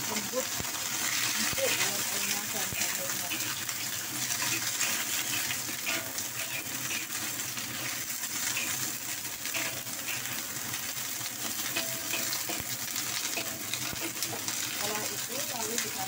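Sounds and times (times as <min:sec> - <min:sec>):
vegetables sizzling in a wok: 0:00.0 - 0:16.0
metal spatula scraping a wok: 0:00.8 - 0:15.1.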